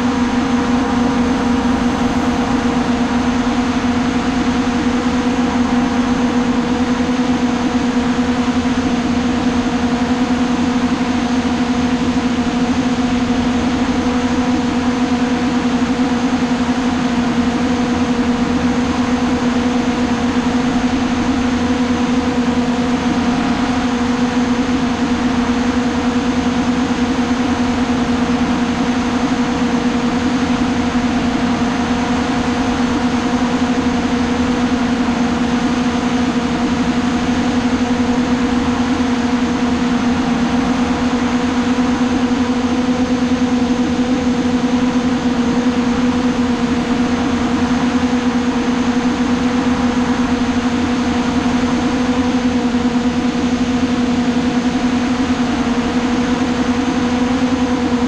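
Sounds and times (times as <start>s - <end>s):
drone propellers humming: 0.0s - 58.0s.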